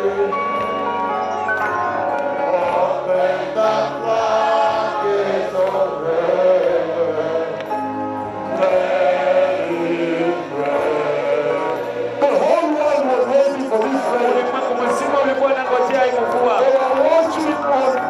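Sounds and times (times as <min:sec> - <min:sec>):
gospel choir singing: 0:02.4 - 0:17.9.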